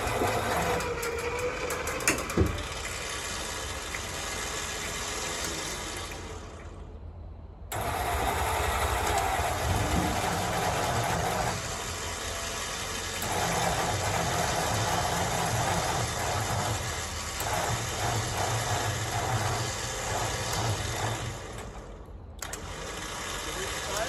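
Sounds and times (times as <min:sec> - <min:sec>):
engine idling unevenly: 0:00.0 - 0:24.0.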